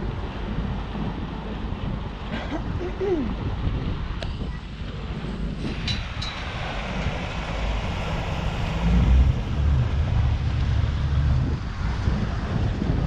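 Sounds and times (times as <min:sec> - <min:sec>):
ferry engine rumble: 0:00.0 - 0:13.0
wind noise on microphone: 0:00.0 - 0:13.0.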